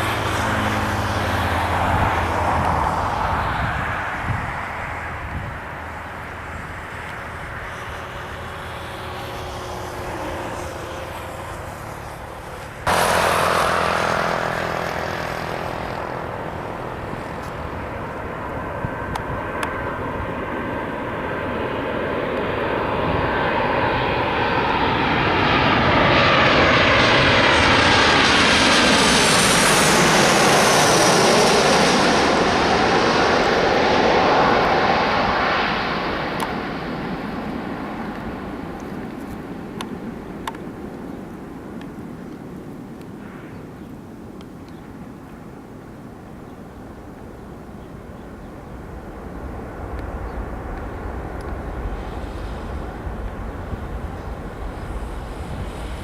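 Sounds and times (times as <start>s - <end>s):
jet engines passing by: 0.0s - 56.0s.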